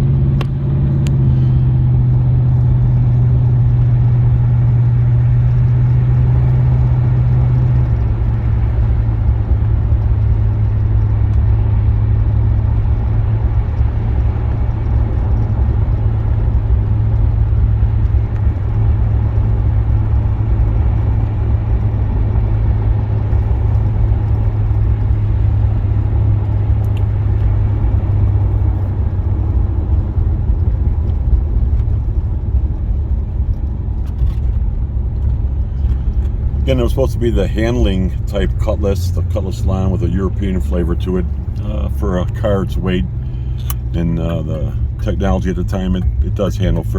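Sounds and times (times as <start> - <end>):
car engine driving: 0.0 - 46.9
tyres on the road: 0.0 - 46.9.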